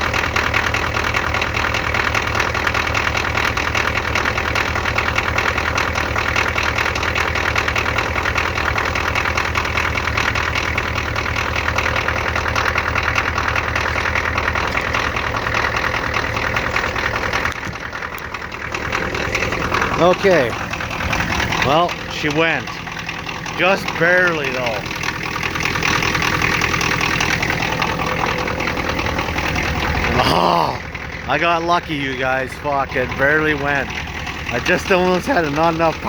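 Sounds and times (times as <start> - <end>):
diesel engine clattering: 0.0 - 36.0.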